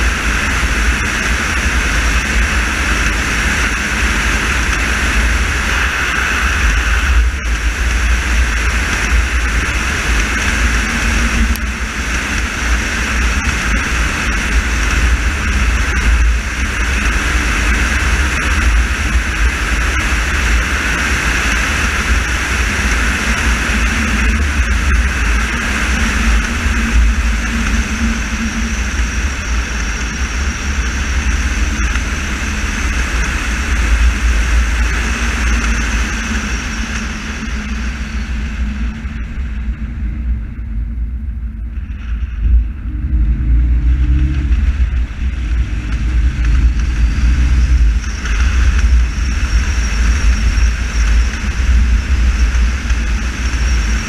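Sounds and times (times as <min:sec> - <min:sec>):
tyre noise on wet road: 0:00.0 - 0:39.8, 0:41.7 - 0:54.0
car engine and road rumble: 0:00.0 - 0:54.0.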